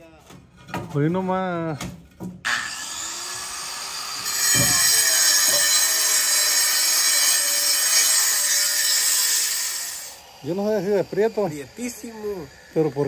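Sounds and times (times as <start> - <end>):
angle grinder cutting concrete: 2.5 - 13.0.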